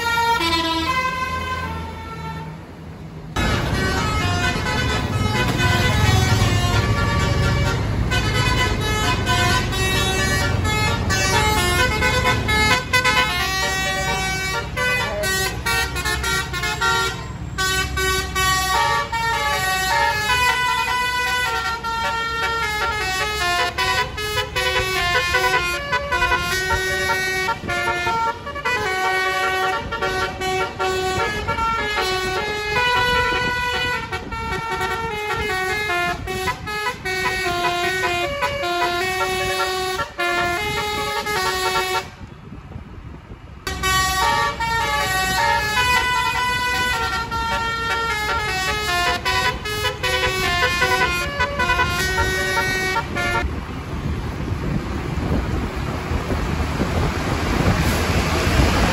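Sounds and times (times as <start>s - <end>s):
low traffic rumble: 0.0s - 58.9s
musical air horn tune: 3.4s - 42.2s, 43.7s - 53.5s.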